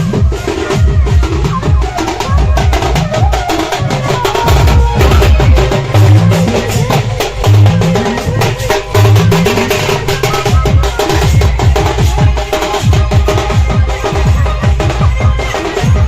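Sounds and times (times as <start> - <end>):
loud dance music with heavy bass: 0.0 - 16.0.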